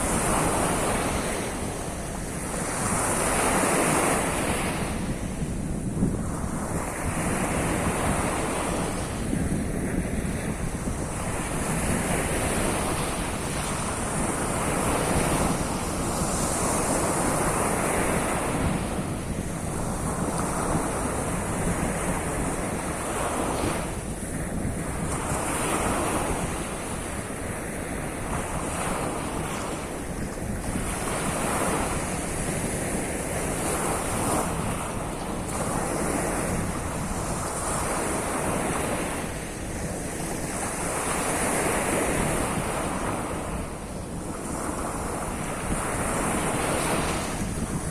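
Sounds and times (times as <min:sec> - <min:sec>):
waves breaking: 0:00.0 - 0:47.9
wind rumbling on microphone: 0:00.0 - 0:47.9.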